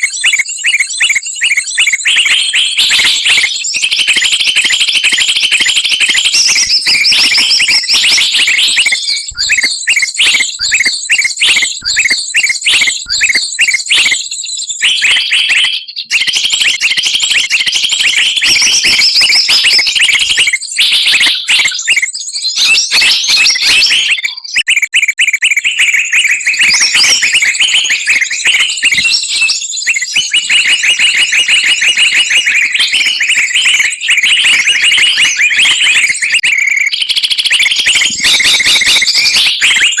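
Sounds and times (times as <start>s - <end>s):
chorus of small songbirds: 0.0s - 40.0s.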